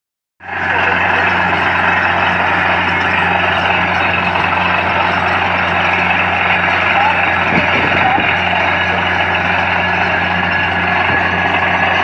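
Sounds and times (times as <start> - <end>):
drilling rig engine hum: 0.4 - 12.0.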